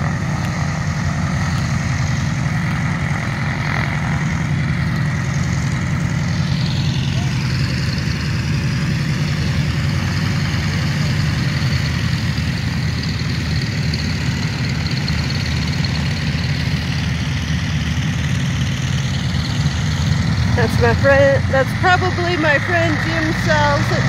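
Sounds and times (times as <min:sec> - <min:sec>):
propeller wash noise: 0:00.0 - 0:24.0
twin propeller engines running: 0:00.0 - 0:24.0.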